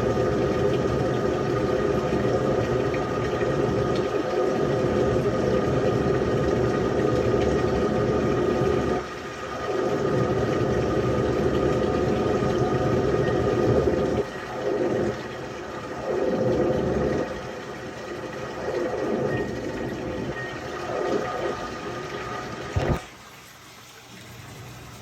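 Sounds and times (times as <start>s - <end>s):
washing machine running: 0.0s - 25.0s
water rushing: 0.0s - 25.0s.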